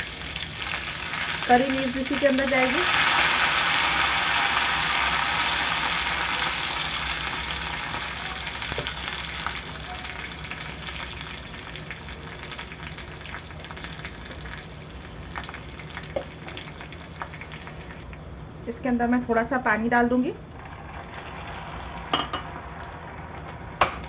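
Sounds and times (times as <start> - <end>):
leaves sizzling in hot oil: 0.0 - 18.2, 19.4 - 24.0
small oil crackles: 0.0 - 18.3, 20.5 - 24.0.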